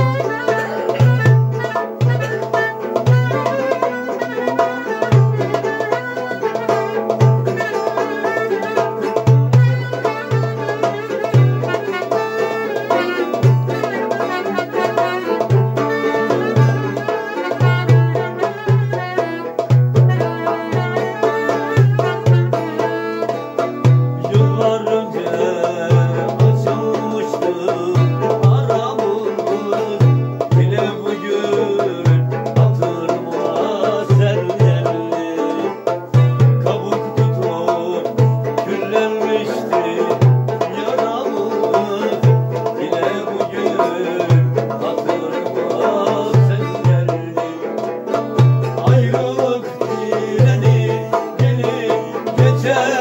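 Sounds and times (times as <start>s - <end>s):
long-necked lute plucked: 0.0s - 53.0s.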